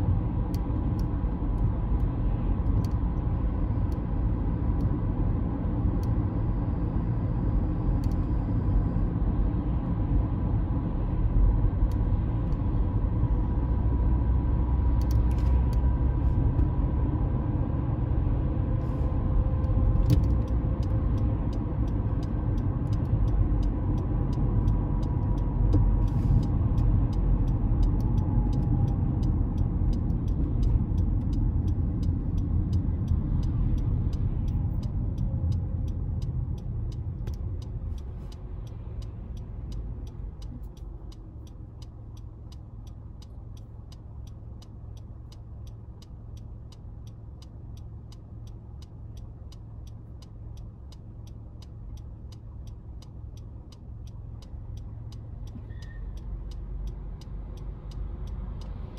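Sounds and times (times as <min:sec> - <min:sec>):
car road and engine noise: 0:00.0 - 0:58.9
turn signal ticking: 0:00.0 - 0:58.9.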